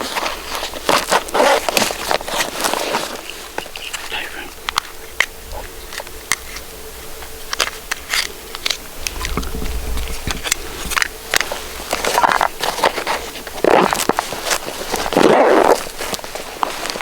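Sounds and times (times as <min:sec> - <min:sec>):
footsteps crunching on dry ground: 0:00.0 - 0:17.0
twigs snapping: 0:00.0 - 0:17.0.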